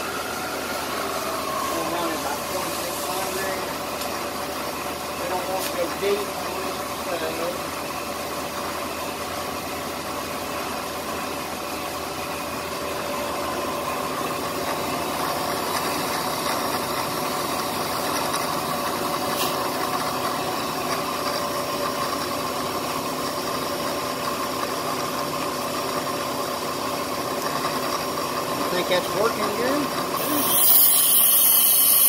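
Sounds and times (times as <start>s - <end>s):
milling machine spindle humming: 0.0s - 32.0s.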